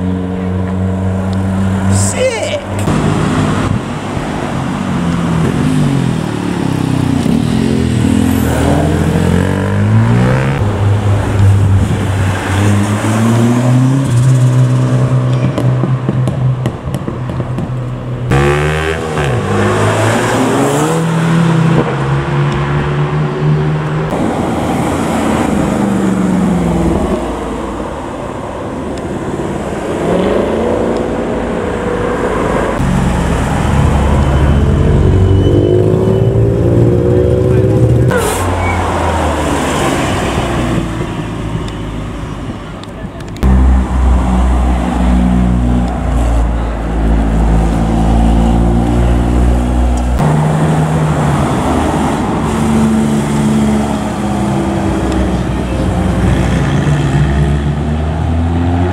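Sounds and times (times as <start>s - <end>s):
cars accelerating hard: 0.0s - 42.6s, 43.3s - 58.9s.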